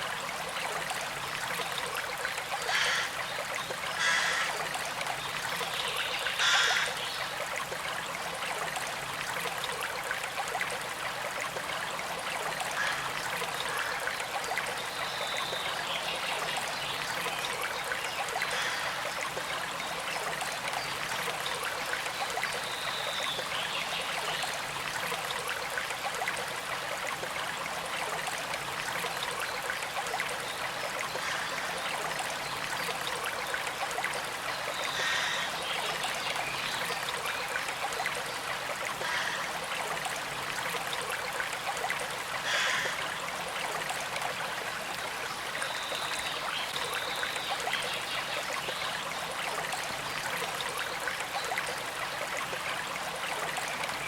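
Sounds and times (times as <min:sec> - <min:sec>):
creek trickling: 0:00.0 - 0:54.0.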